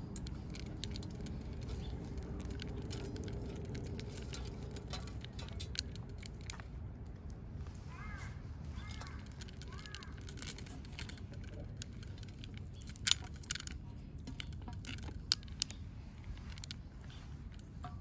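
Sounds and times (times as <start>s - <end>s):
cats crunching dry food: 0.0s - 7.4s, 8.7s - 17.8s.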